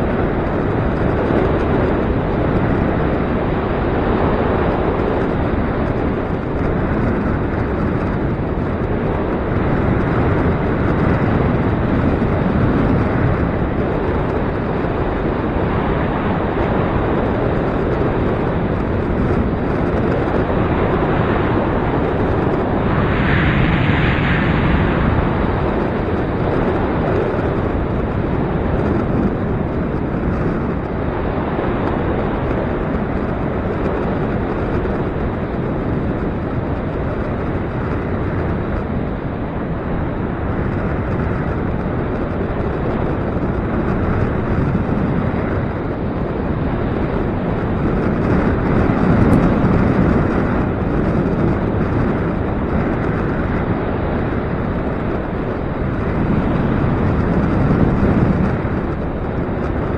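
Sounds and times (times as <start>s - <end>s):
wind blowing on microphone: 0.0s - 59.9s.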